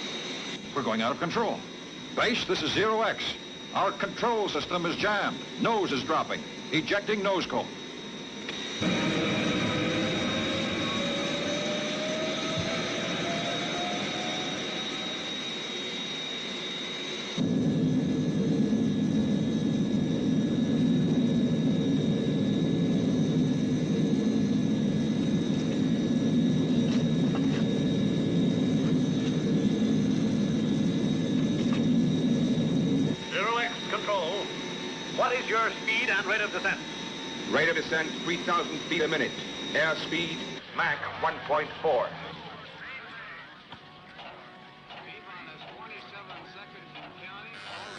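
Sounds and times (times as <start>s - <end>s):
jet engine whine: 0.0s - 47.9s.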